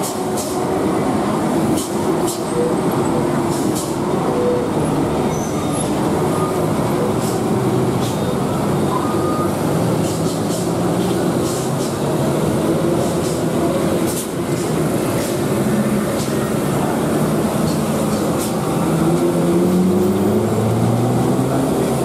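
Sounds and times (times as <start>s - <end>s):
heavy truck engines droning: 0.0s - 22.0s.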